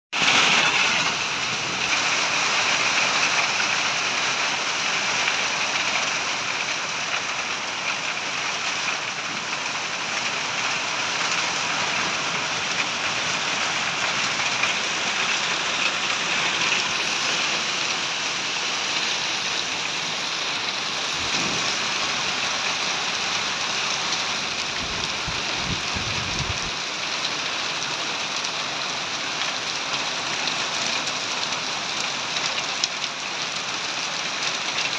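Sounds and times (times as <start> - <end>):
heavy rain on road: 0.1 - 34.9.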